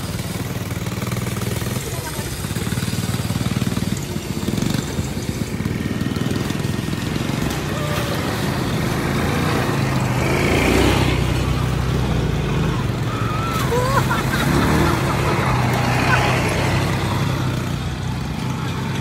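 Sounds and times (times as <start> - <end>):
quad bike engines running: 0.0 - 19.0.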